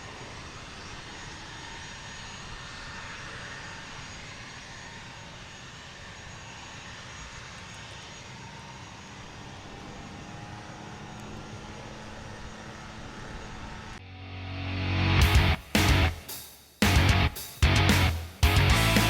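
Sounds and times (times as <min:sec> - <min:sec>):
airplane engine drone: 0:00.0 - 0:19.0.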